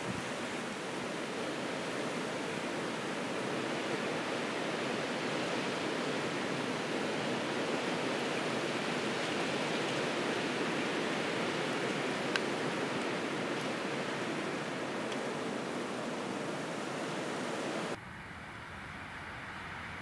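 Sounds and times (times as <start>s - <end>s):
blizzard wind through trees: 0.0s - 20.0s.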